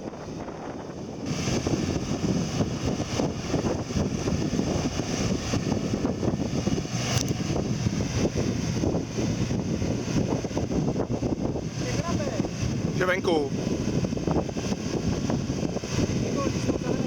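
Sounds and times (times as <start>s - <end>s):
off-road vehicle engine: 0.0s - 17.0s.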